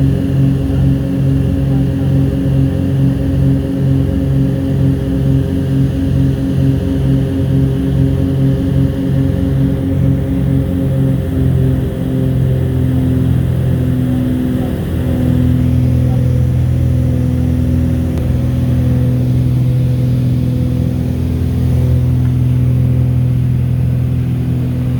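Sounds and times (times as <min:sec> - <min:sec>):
small aircraft engine droning: 0:00.0 - 0:24.9.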